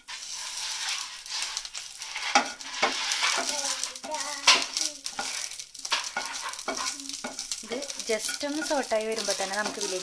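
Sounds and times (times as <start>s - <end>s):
shallots sizzling in oil: 0.0s - 10.0s
wooden spatula stirring: 0.0s - 10.0s.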